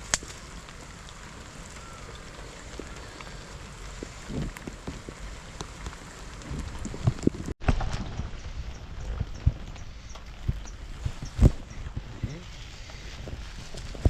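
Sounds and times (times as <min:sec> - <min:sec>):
raindrops ticking: 0:00.0 - 0:14.0
steady rain: 0:00.0 - 0:14.0.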